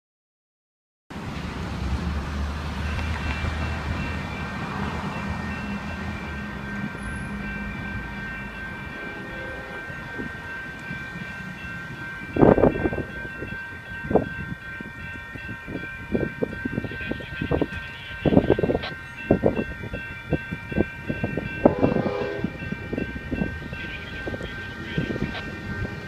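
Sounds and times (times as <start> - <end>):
train low rumble: 1.1 - 26.0
steady high tones: 2.8 - 26.0.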